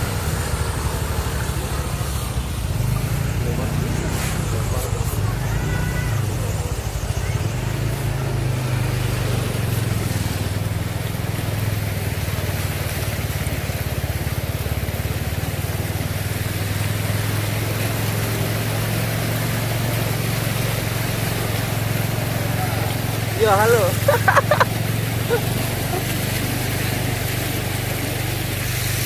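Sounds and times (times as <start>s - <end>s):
road noise: 0.0s - 29.0s
vehicle engine droning: 0.0s - 29.0s.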